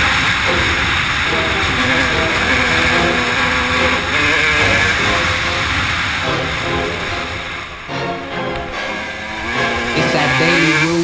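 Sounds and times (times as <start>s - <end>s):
motorcycle engine revving: 0.0s - 11.0s
wind noise: 0.0s - 11.0s.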